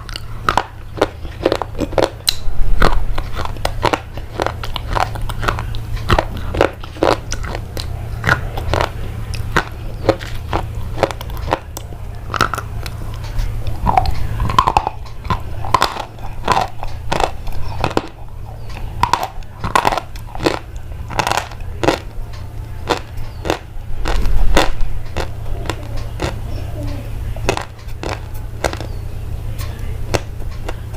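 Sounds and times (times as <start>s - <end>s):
crisp crunches and clicks: 0.0s - 26.4s
low rumble: 0.0s - 30.9s
steady low hum: 0.0s - 30.9s.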